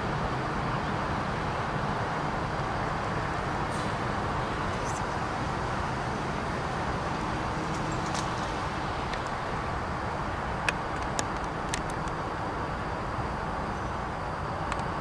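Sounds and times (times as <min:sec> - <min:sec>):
diesel locomotive rumbling: 0:00.0 - 0:15.0.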